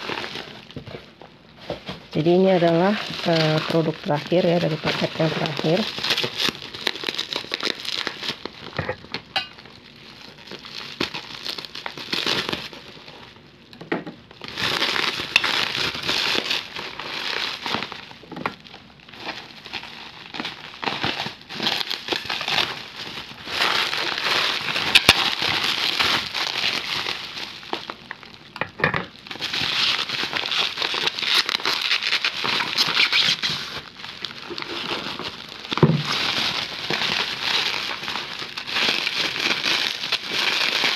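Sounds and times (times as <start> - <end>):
bubble wrap crinkling: 0.0 - 40.9.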